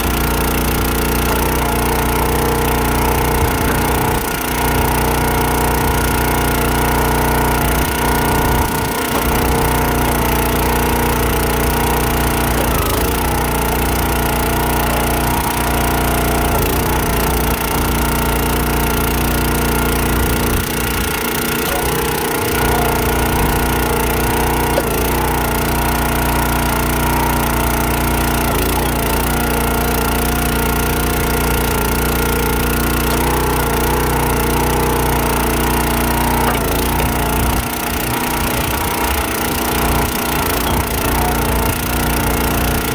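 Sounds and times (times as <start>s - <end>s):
small gas engine running: 0.0s - 42.9s.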